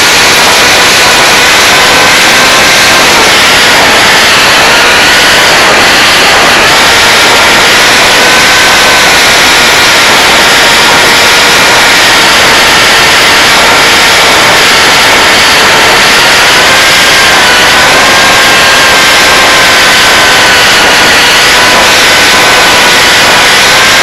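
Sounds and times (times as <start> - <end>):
electric motor and propeller whine: 0.0 - 24.0
wind rushing over microphone: 0.0 - 24.0.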